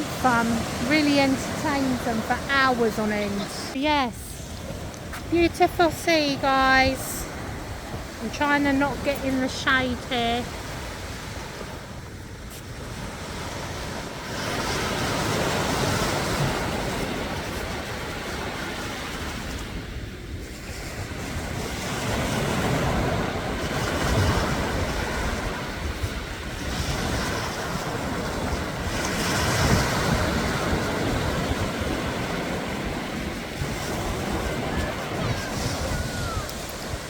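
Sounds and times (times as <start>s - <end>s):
sea waves breaking on shore: 0.0s - 37.0s
wind buffeting microphone: 0.0s - 37.0s.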